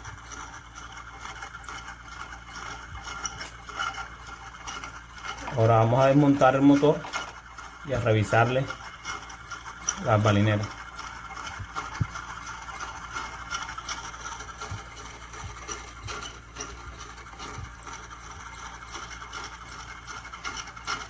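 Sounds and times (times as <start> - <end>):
hand tools and metal parts rattling: 0.0 - 21.0
steady low hum: 0.0 - 21.0.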